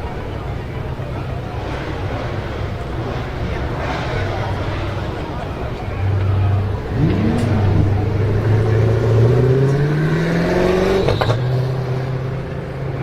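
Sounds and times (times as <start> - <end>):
car engine revving and accelerating: 0.0 - 13.0
exhaust crack at gear change: 0.1 - 13.0.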